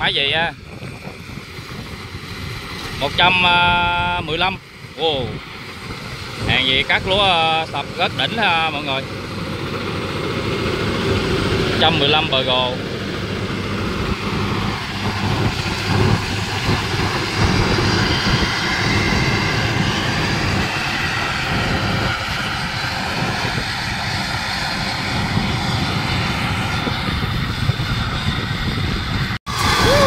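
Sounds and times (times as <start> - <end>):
combine harvester engine drone: 0.0 - 30.0
dense mechanical noise: 0.0 - 30.0.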